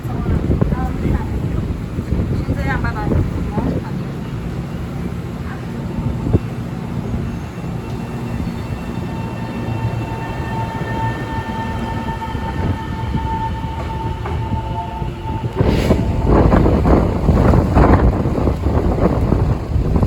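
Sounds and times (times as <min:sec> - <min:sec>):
train rumble and whine: 0:00.0 - 0:20.0
wind buffeting microphone: 0:00.0 - 0:20.0.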